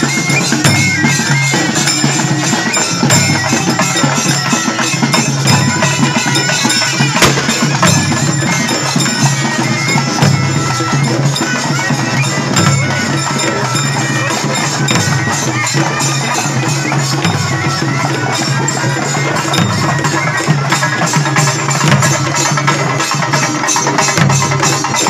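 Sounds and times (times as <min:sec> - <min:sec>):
drums beating steadily: 0:00.0 - 0:25.0.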